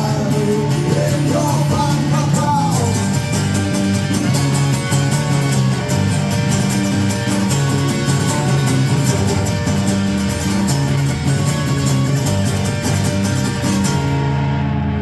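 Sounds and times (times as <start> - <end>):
bass line: 0.0 - 15.0
guitar strumming: 0.0 - 15.0
live band instrumental: 0.0 - 15.0.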